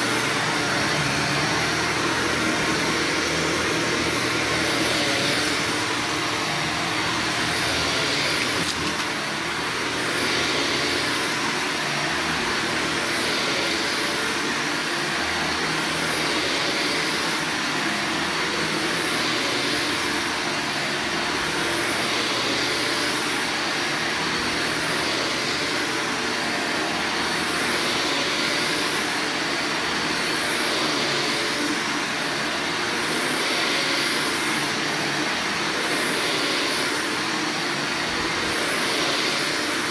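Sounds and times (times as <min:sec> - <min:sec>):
vacuum cleaner running over carpet: 0:00.0 - 0:39.9.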